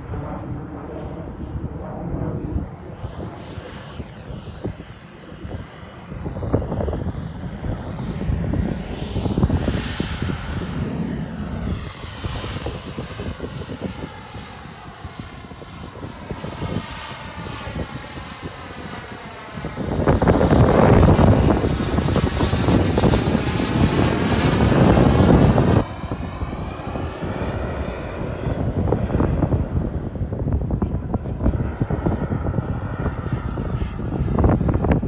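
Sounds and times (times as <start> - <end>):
model jet turbine whine: 0.0 - 35.0
rumbling jet noise: 0.0 - 35.0.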